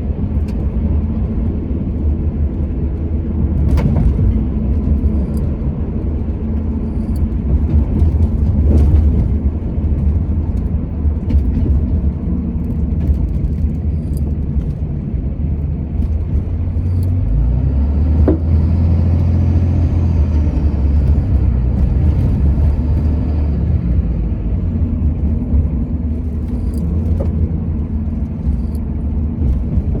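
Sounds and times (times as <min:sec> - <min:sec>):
vehicle engine and road rumble: 0:00.0 - 0:30.0.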